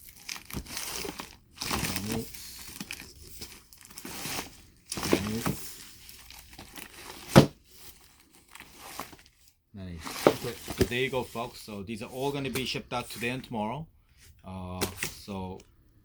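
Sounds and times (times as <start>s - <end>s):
packing material crinkling: 0.0s - 13.5s.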